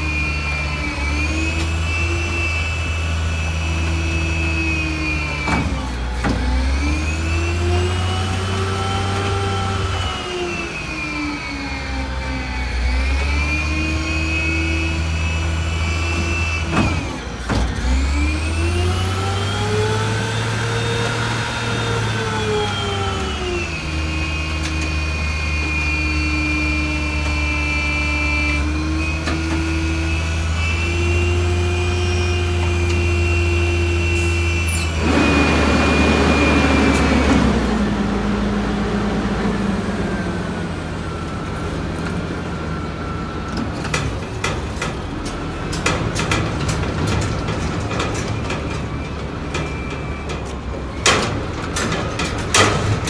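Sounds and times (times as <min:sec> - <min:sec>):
diesel truck engine revving: 0:00.0 - 0:53.0.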